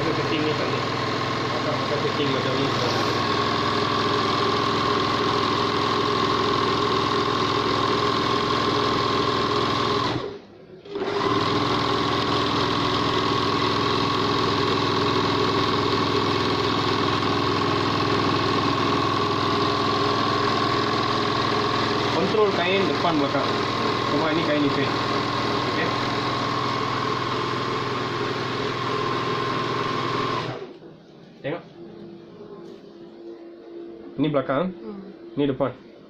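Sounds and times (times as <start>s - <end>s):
overlock sewing machine running: 0.0s - 30.7s.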